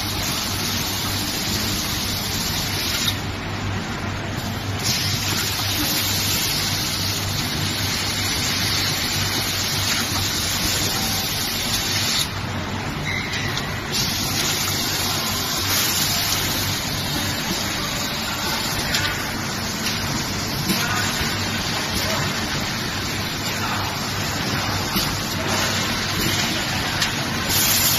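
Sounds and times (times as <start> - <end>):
welding machine hiss: 0.0 - 3.3, 4.3 - 12.4, 13.9 - 27.9
welding machine hum: 0.0 - 13.0, 13.8 - 27.9.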